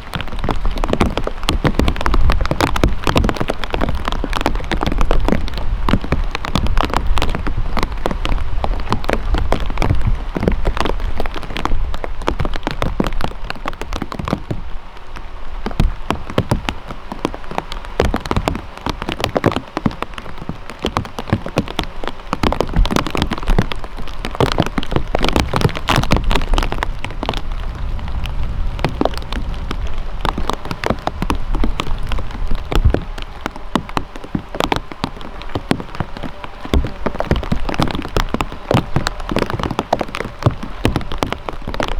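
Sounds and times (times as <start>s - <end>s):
raindrops pattering: 0.0s - 41.9s
steady rain: 0.0s - 41.9s.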